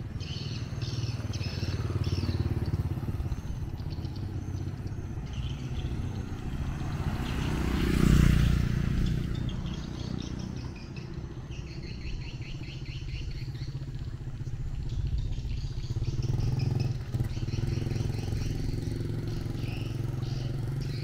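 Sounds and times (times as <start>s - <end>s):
birds chirping: 0.0s - 21.0s
small engine running: 0.0s - 21.0s.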